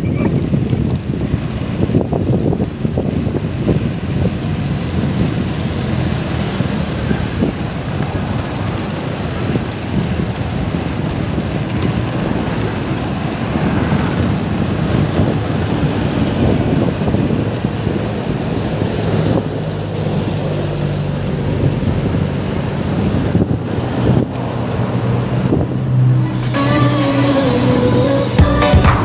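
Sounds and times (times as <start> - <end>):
wind buffeting microphone: 0.0 - 26.2
engine hum: 0.0 - 29.0
road traffic: 0.0 - 29.0.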